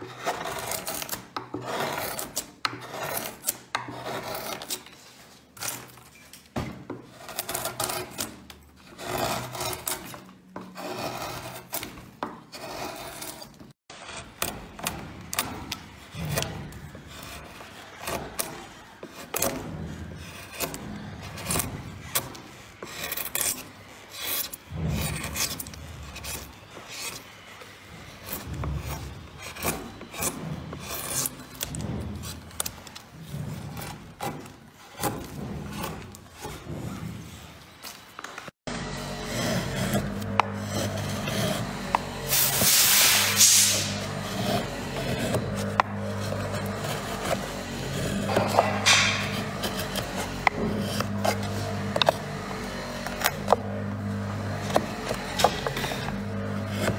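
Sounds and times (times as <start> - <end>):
chisel scraping cuts into wood: 0.0 - 56.9.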